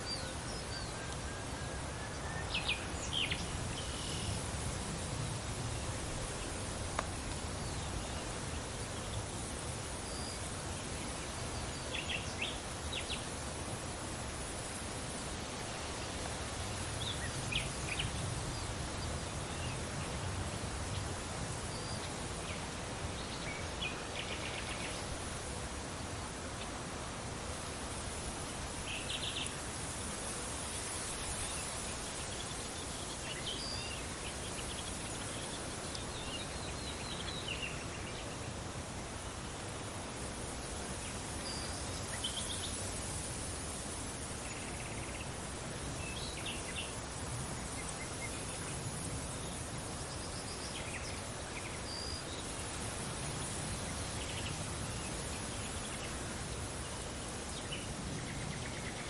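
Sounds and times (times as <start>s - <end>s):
insects chirping: 0.0s - 59.0s
steady wind: 0.0s - 59.0s.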